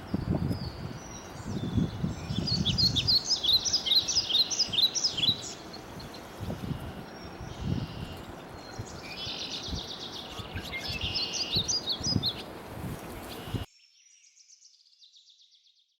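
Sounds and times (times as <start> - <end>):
songbirds singing: 0.0 - 15.9.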